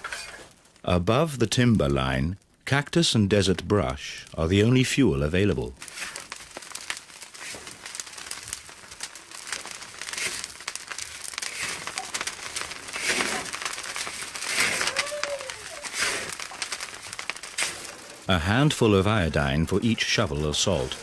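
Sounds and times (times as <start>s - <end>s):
salt crackling over fire: 0.0s - 21.0s.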